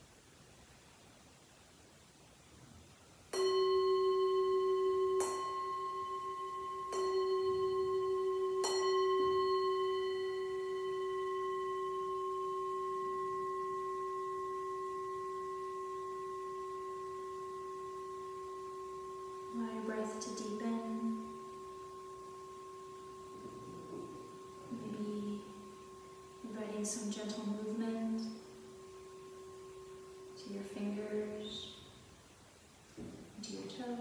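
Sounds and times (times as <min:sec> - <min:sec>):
singing bowl ringing: 0:03.3 - 0:32.8.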